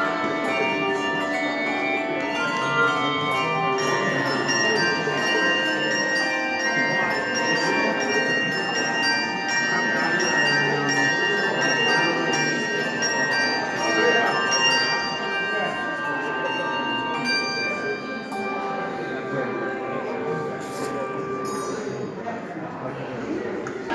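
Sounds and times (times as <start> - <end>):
handbell choir playing: 0.0 - 22.5.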